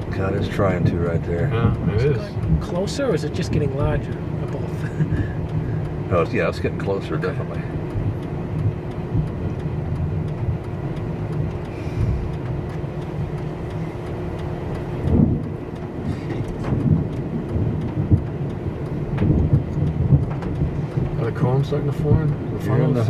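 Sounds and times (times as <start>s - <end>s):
road and engine rumble: 0.0s - 23.0s.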